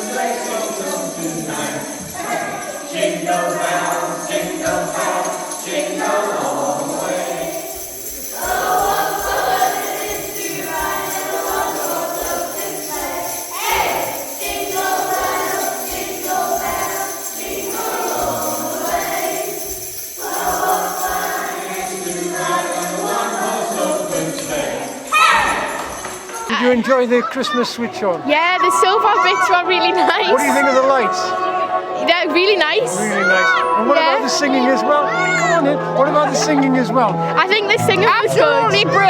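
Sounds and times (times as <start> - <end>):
jingle bells shaking: 0.0 - 27.2, 28.7 - 39.0
christmas music: 0.0 - 39.0.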